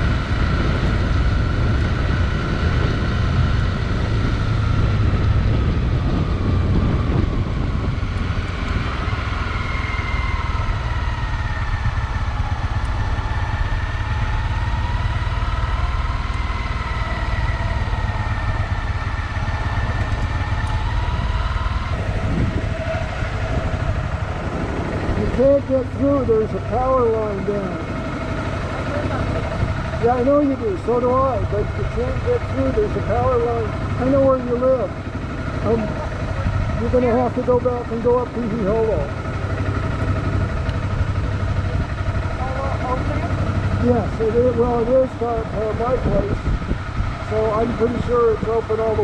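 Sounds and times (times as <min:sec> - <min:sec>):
vehicle engine and road rumble: 0:00.0 - 0:49.0.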